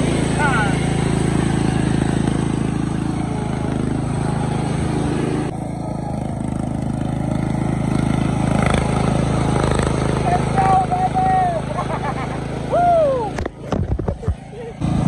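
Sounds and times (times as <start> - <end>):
riding lawn mower engine running: 0.0 - 15.0.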